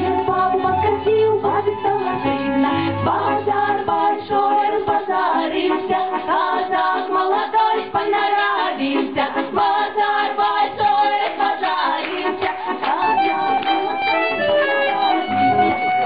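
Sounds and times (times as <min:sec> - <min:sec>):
women's folk choir singing: 0:00.0 - 0:14.0.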